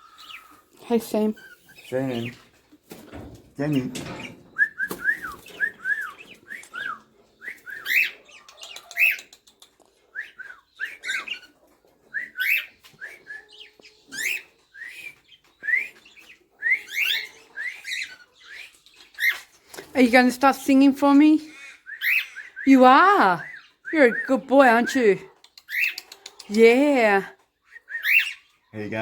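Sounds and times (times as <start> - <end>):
budgerigars chirping: 0.0 - 2.5, 3.1 - 26.8, 27.6 - 29.0.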